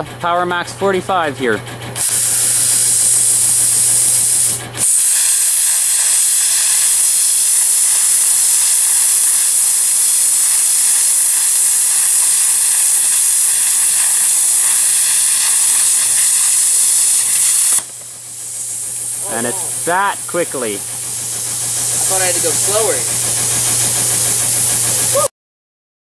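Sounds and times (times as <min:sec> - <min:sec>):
plasma cutter hissing: 0:02.0 - 0:25.3.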